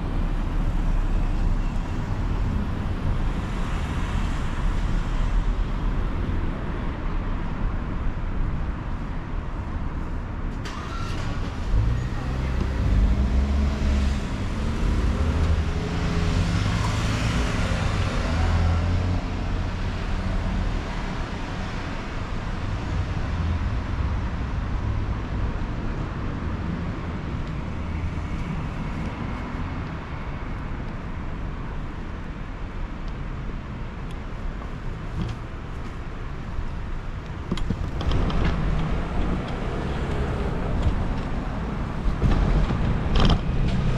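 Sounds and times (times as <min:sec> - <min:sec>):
low traffic rumble: 0:00.0 - 0:43.9.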